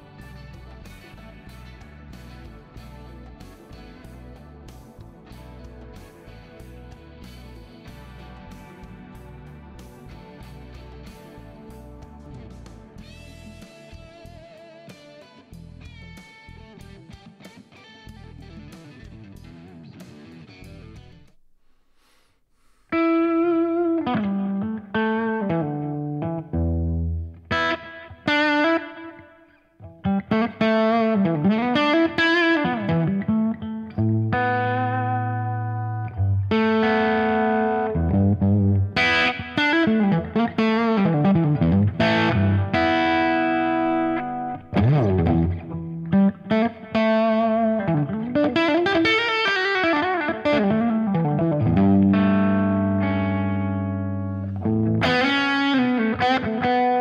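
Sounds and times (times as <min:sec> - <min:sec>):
overdriven electric guitar: 0:00.0 - 0:21.4, 0:22.9 - 0:57.0.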